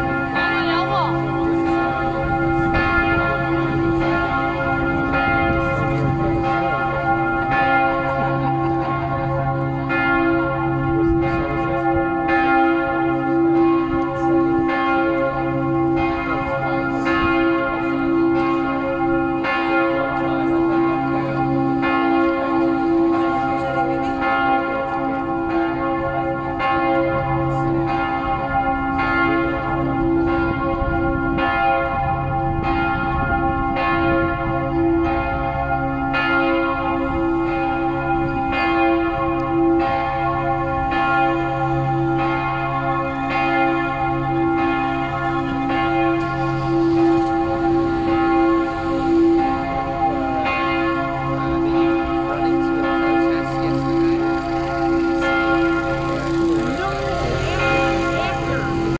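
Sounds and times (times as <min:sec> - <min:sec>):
church bells pealing: 0:00.0 - 0:58.9.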